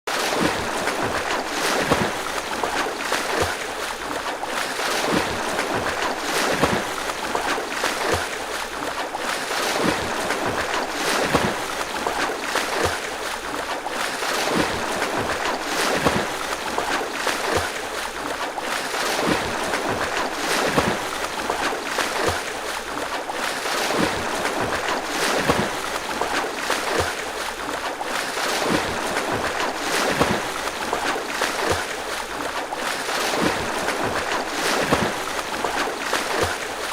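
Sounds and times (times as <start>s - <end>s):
rough sea waves: 0.1s - 36.9s
wind: 0.1s - 36.9s.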